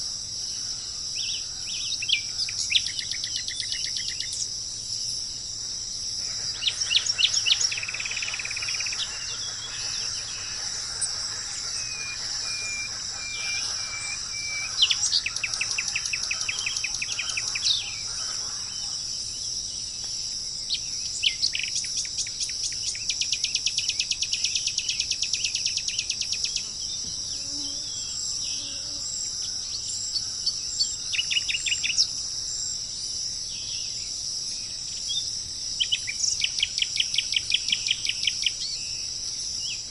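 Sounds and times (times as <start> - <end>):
birds calling and trilling: 0.0 - 32.2
insects chorus: 0.0 - 39.9.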